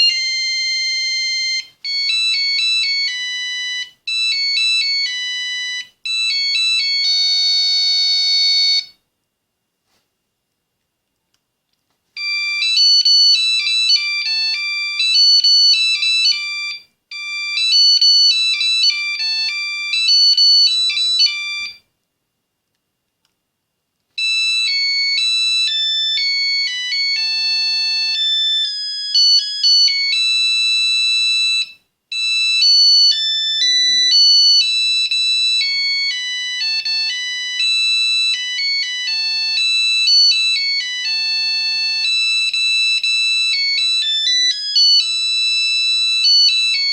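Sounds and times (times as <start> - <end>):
mobile phone ringtone melody: 0.0 - 9.0, 12.2 - 21.9, 24.2 - 46.9.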